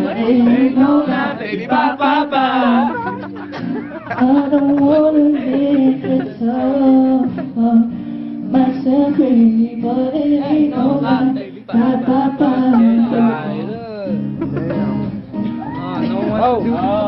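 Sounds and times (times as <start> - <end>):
vocal group singing: 0.0 - 13.8, 16.2 - 17.0.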